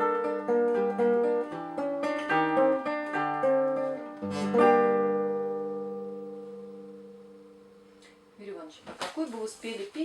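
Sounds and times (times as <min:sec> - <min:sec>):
acoustic guitar playing: 0:00.0 - 0:08.8.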